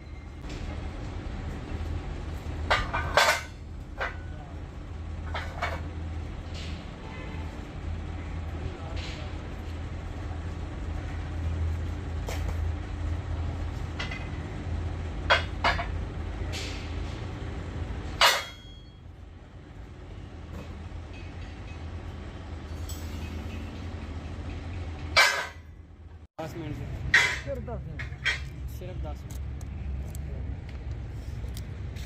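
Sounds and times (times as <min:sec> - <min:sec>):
heavy steel parts clanking: 0:00.0 - 0:29.2.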